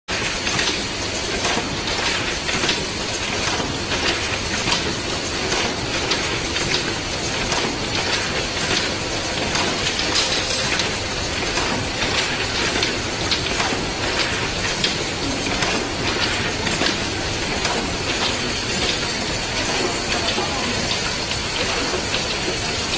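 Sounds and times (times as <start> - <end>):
machine mechanical clatter: 0.1 - 22.9.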